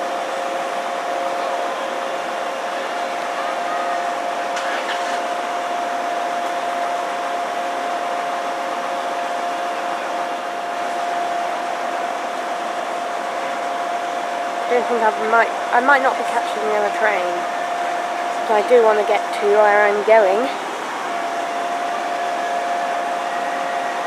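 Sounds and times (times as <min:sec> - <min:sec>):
diesel train engine idling: 0:00.0 - 0:24.0.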